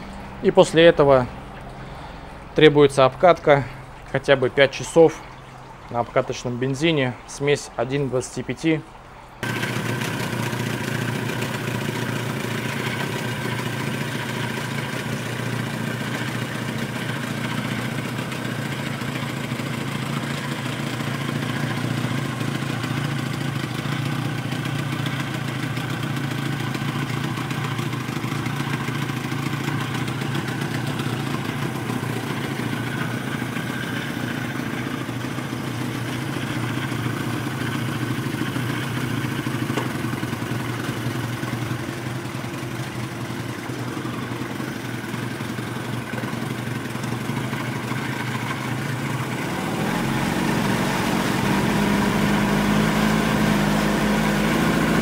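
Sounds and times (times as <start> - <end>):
outboard motor idling: 0.0 - 55.0.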